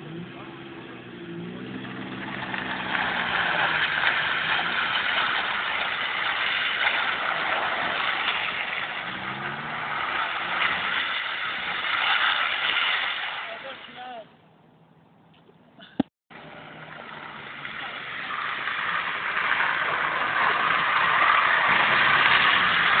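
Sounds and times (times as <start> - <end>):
car engine revving: 0.0 - 13.4, 16.3 - 23.0
tyres hissing on wet road: 1.4 - 14.0, 16.4 - 23.0.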